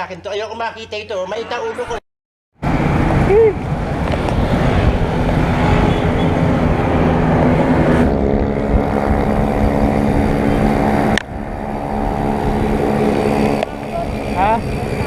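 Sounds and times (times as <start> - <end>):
car engine humming: 2.6 - 15.0
wind and road noise: 2.6 - 15.0.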